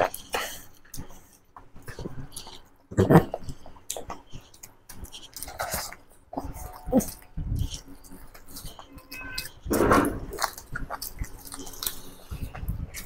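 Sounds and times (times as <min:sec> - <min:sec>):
wet chewing and mouth smacking: 0:00.0 - 0:13.0.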